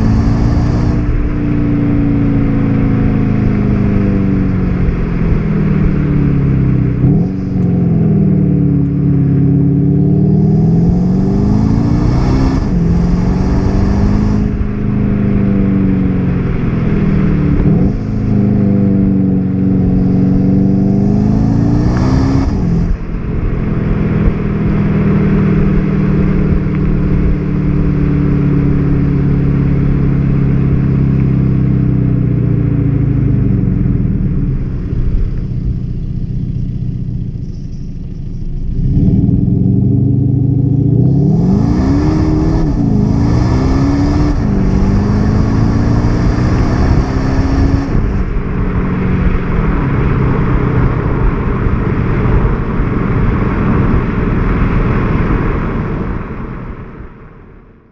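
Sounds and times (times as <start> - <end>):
car engine accelerating: 0.0 - 57.9.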